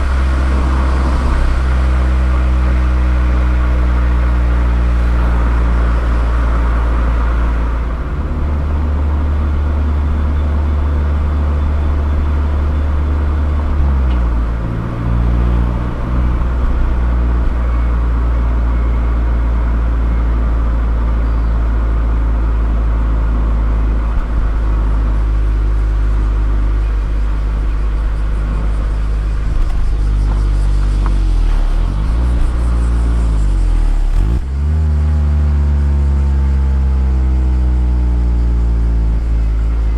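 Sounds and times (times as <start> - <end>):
car engine droning at cruising revs: 0.0 - 39.9.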